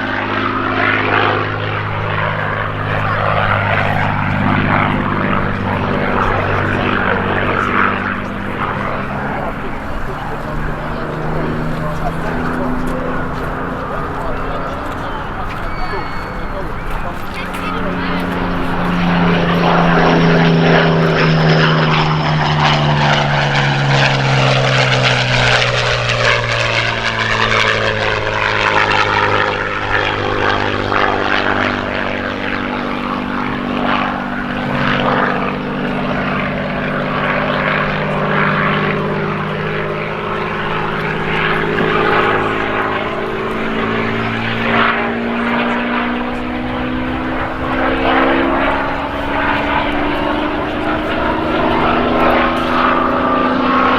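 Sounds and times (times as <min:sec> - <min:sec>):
propeller aircraft engines droning: 0:00.0 - 0:53.9.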